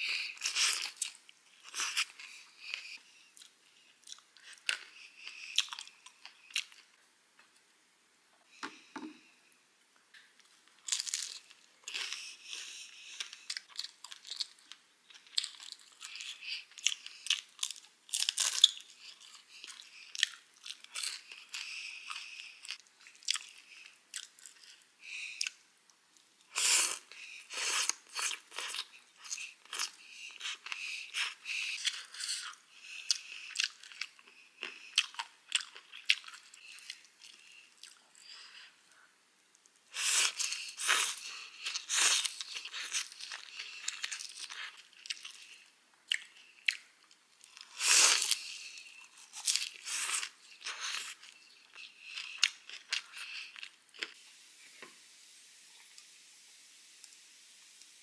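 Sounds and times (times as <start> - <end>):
person chewing and crunching: 0.1 - 7.0, 10.7 - 25.6, 26.4 - 38.7, 39.9 - 54.2.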